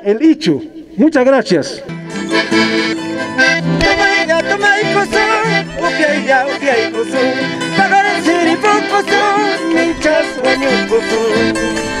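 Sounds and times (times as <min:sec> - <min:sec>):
accordion: 0:01.0 - 0:12.0
violin melody: 0:01.8 - 0:12.0.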